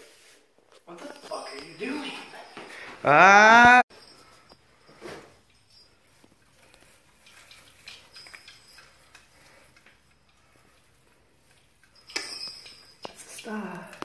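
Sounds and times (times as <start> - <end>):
tinsel rustling and crinkling: 0.0 - 3.0, 3.9 - 14.0.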